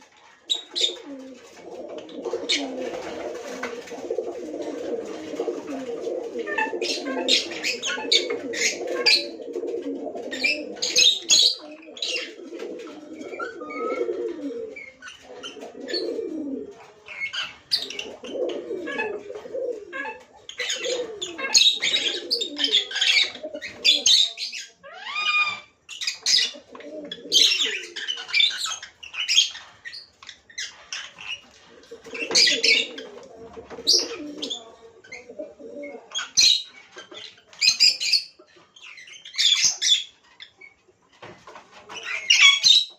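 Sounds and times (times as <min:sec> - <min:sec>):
lovebirds chirping: 0:00.4 - 0:04.1, 0:04.7 - 0:41.2.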